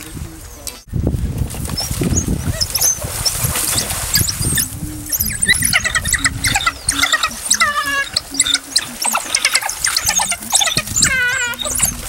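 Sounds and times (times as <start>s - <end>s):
splashing in shallow water: 0.0s - 12.0s
wild dogs twittering and squealing: 1.7s - 12.0s.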